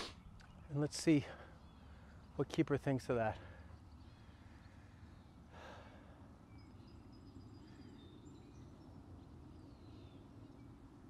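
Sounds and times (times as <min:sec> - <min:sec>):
distant birds chirping: 0:00.0 - 0:11.0.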